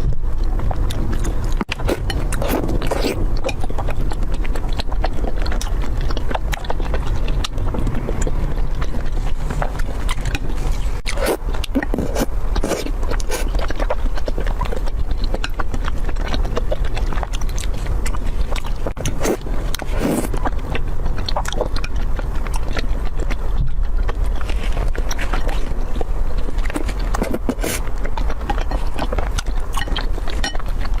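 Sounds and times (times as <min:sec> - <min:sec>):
close-miked chewing food: 0:00.0 - 0:31.0
low hum: 0:00.0 - 0:31.0.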